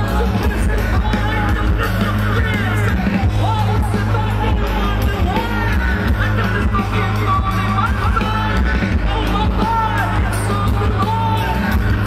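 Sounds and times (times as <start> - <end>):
electronic pop band over pa: 0.0 - 12.0.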